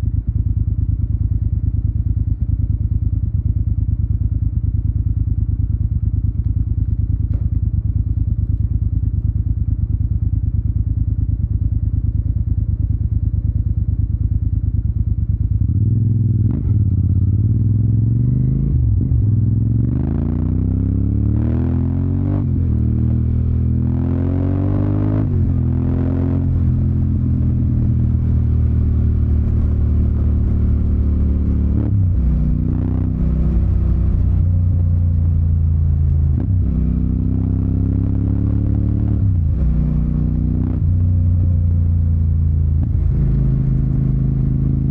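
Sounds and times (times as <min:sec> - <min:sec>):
motorcycle engine idling and accelerating: 0:00.0 - 0:44.9.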